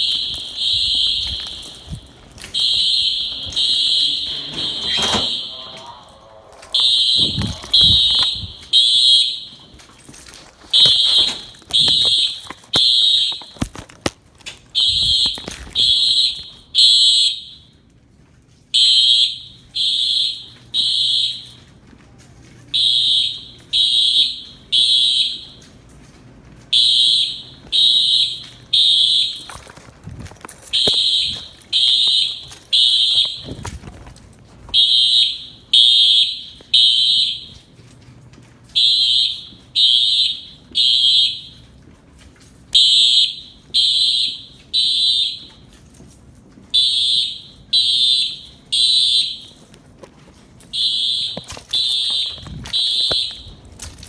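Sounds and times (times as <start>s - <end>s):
steady alarm tone: 0.0s - 13.9s, 14.8s - 17.8s, 18.8s - 21.7s, 22.7s - 25.8s, 26.7s - 37.9s, 38.7s - 41.7s, 42.5s - 45.8s, 46.7s - 49.7s, 50.6s - 54.0s
fire alarm horn blasts: 0.0s - 14.0s, 14.7s - 17.9s, 18.7s - 21.8s, 22.5s - 26.0s, 26.6s - 37.9s, 38.6s - 46.1s, 46.7s - 49.8s, 50.6s - 54.0s.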